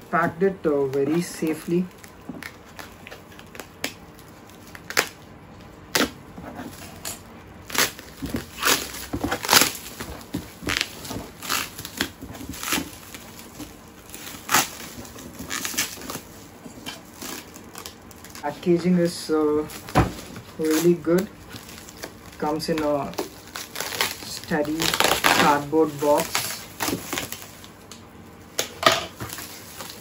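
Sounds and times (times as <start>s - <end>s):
packaging crinkling and tearing: 0.8s - 30.0s
loud packaging rips: 1.7s - 18.5s, 19.6s - 27.8s, 28.5s - 30.0s.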